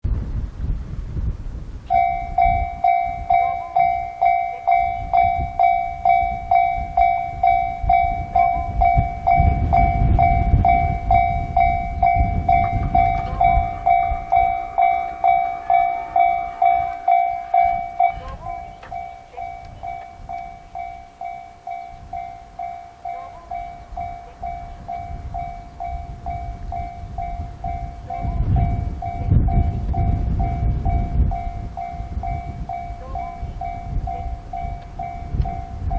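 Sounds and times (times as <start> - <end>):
low rumble: 0.0 - 35.9
level crossing bell ringing: 1.9 - 35.9.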